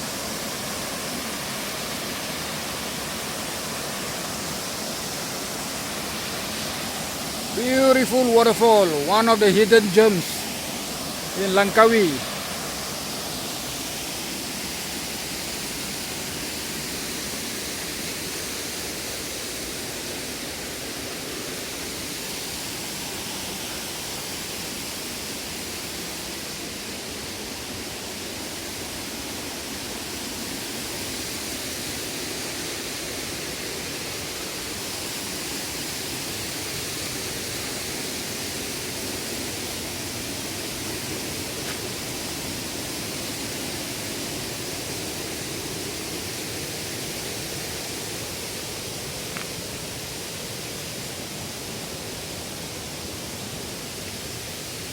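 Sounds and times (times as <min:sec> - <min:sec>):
waterfall rushing over rock: 0:00.0 - 0:54.9.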